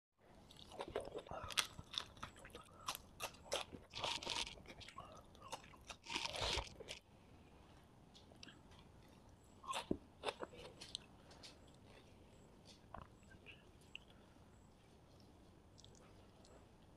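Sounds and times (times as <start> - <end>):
crunching and chewing: 0.3 - 7.1, 7.7 - 16.8.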